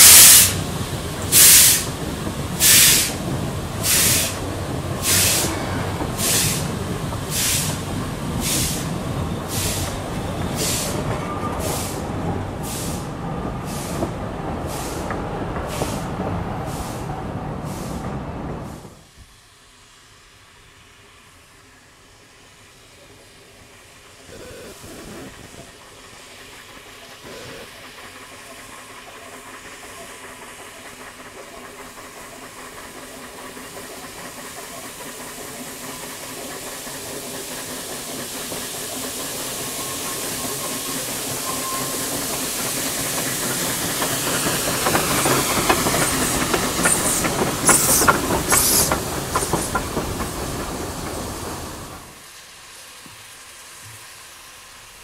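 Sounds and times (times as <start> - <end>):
sharp clicks of train wheels: 0.0 - 19.3, 25.3 - 54.6
steam hissing: 0.0 - 55.0
steam locomotive approaching: 0.0 - 55.0.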